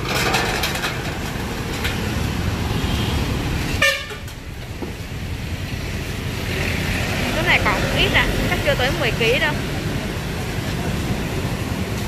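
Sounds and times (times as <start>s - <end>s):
street traffic engine rumble: 0.0s - 12.0s.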